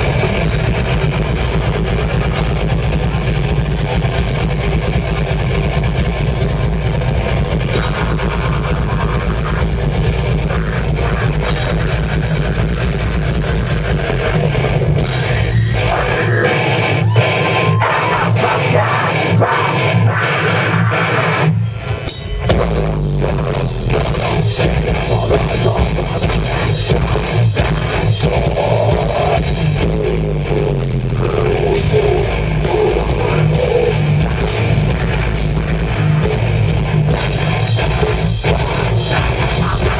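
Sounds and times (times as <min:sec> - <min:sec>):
deep bass: 0:00.0 - 0:21.0, 0:21.6 - 0:39.9
rock band playing live: 0:00.0 - 0:39.9.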